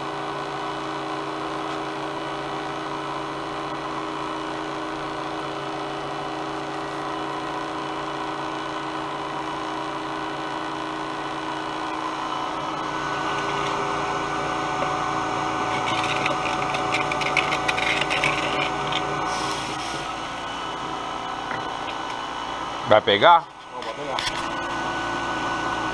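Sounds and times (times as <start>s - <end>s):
cotton candy machine motor hum: 0.0s - 25.9s.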